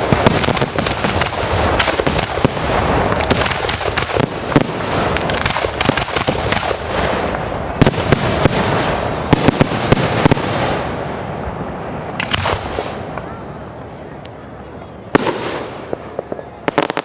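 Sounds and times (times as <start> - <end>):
fireworks cracks and bangs: 0.0 - 14.4, 15.1 - 17.0
fireworks crackling hiss: 0.0 - 17.0.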